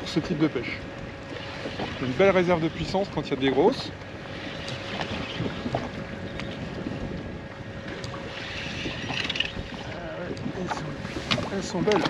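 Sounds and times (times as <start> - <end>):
water slapping against boat: 0.0 - 12.0
wind buffeting microphone: 0.0 - 12.0.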